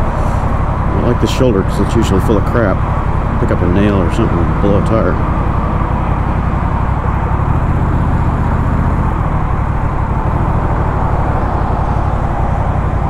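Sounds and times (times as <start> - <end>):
motorcycle engine running: 0.0 - 13.0
road and traffic noise: 0.0 - 13.0.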